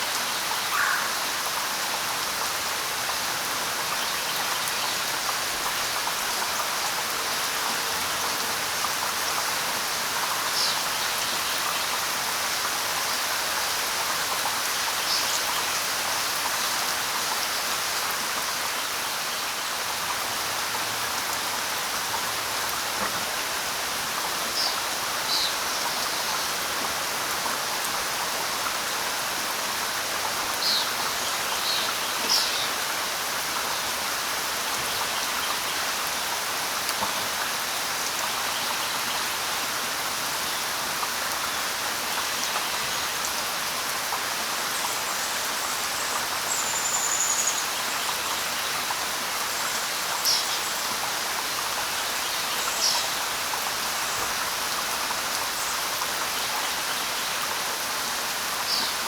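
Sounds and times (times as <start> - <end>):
light rain on leaves: 0.0 - 59.0.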